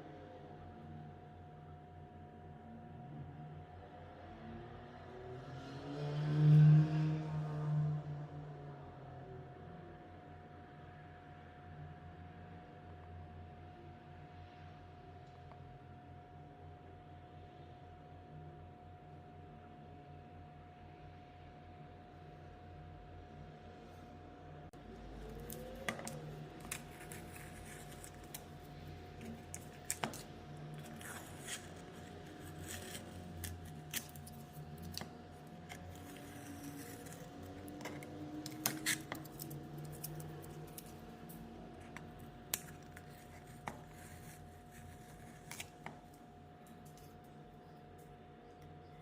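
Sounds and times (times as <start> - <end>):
faint steady hum: 8.9 - 49.0.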